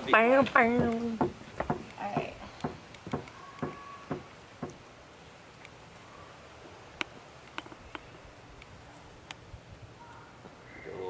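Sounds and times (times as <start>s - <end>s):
quiet hiss: 0.0s - 11.0s.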